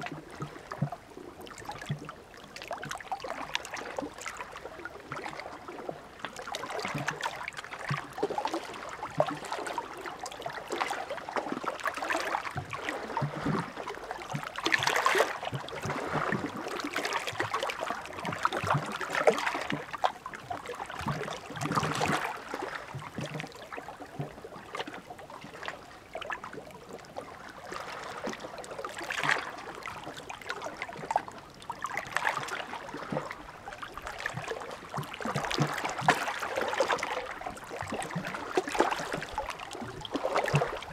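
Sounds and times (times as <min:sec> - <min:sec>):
small waves splashing on shore: 0:00.0 - 0:40.9.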